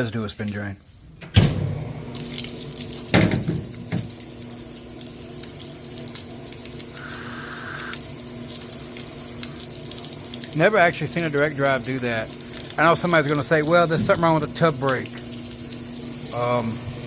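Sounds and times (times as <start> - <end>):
washing machine motor humming: 1.1 - 17.0
water gushing from drain hose: 2.0 - 17.0.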